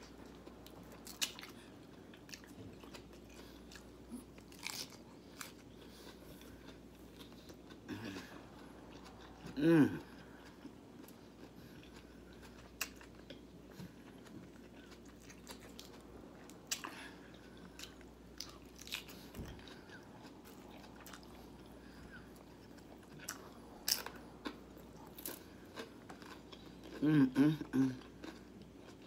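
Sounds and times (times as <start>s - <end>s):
quiet chewing: 0.0s - 29.0s.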